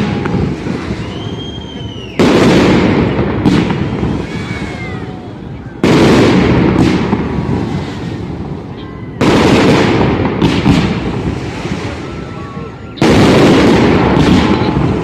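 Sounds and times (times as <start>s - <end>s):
fireworks bangs and cracks: 0.0s - 15.0s
rumble after fireworks: 0.0s - 15.0s.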